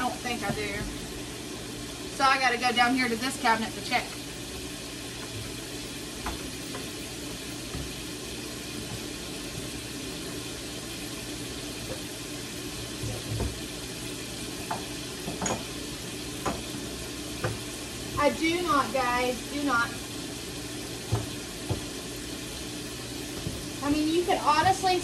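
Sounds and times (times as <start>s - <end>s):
fries sizzling in oil: 0.0s - 25.0s.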